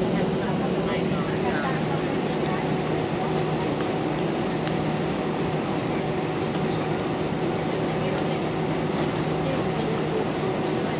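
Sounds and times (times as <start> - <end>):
aircraft cabin hum and rumble: 0.0 - 10.9.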